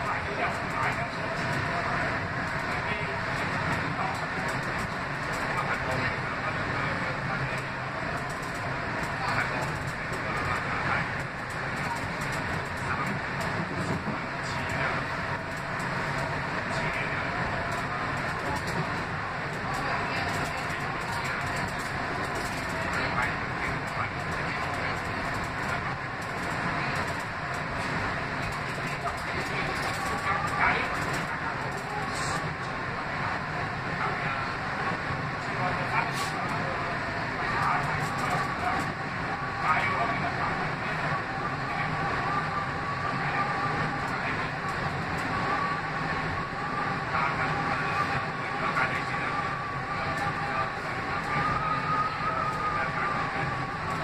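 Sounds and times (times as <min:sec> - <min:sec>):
subway train wheels rumbling: 0:00.0 - 0:54.0
traction motors whirring: 0:00.0 - 0:54.0.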